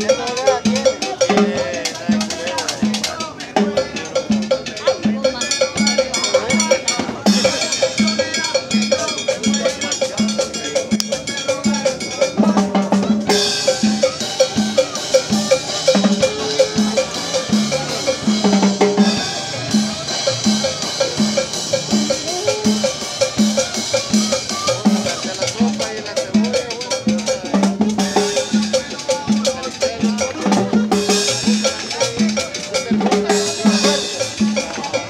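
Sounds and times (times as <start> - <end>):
pitched melody line: 0.0 - 35.0
street band dance music: 0.0 - 35.0.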